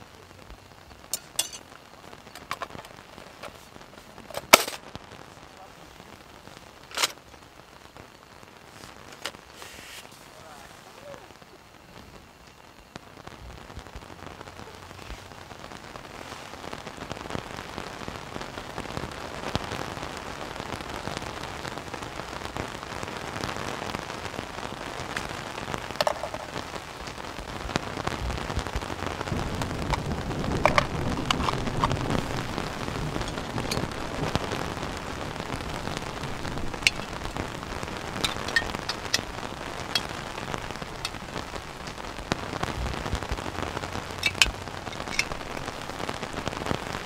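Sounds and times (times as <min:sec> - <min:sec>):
rain on tent and grass: 0:00.0 - 0:47.0.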